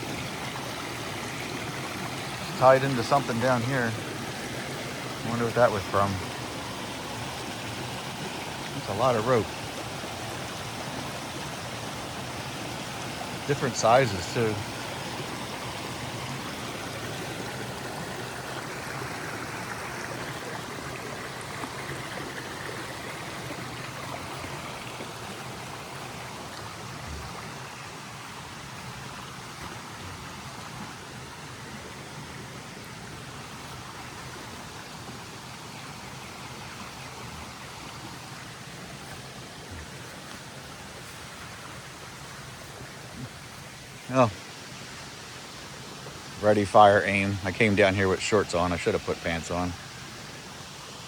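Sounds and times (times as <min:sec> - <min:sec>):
creek water rushing: 0:00.0 - 0:51.0.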